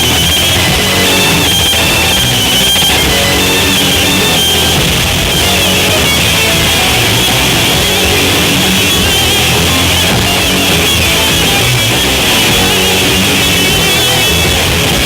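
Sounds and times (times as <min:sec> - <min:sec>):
live heavy rock band: 0:00.0 - 0:15.0.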